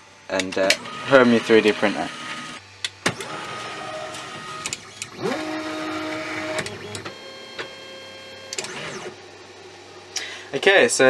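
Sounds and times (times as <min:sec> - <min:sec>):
stepper motors whining: 0:00.4 - 0:09.4.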